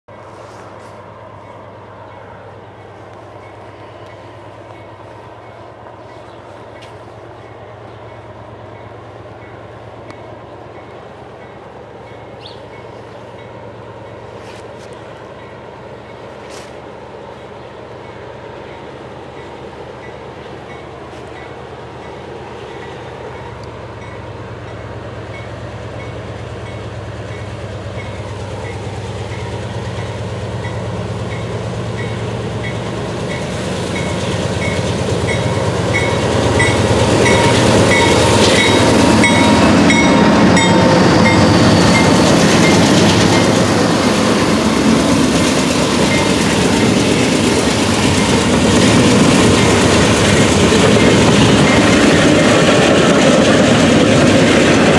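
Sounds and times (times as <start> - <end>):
diesel locomotive engines: 0.1 - 54.9
train rumble and clatter: 0.1 - 54.9
grade-crossing bell ringing: 1.3 - 14.5, 15.3 - 52.9.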